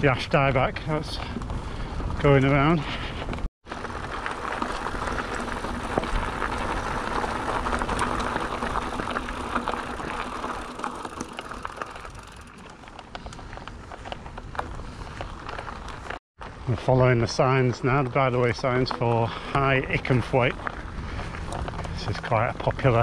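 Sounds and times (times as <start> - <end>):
bike tyres on rough trail: 0.0 - 23.0
bike clicking and rattling: 1.0 - 16.6, 17.2 - 23.0.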